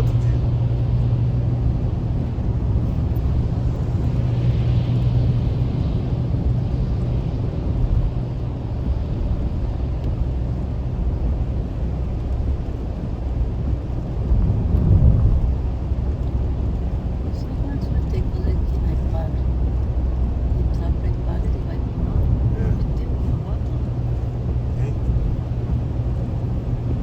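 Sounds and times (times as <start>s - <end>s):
car engine hum: 0.0s - 27.0s
low hum: 0.0s - 27.0s.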